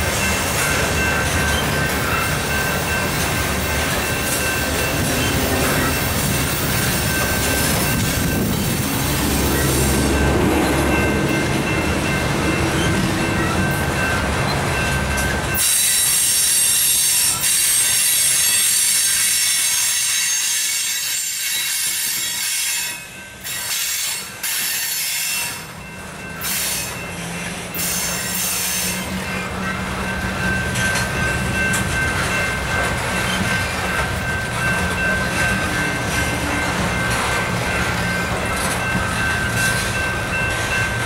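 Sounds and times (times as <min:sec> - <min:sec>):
train wheels squealing: 0:00.0 - 0:14.2, 0:14.8 - 0:41.0
train wheels rumbling on rails: 0:00.0 - 0:41.0.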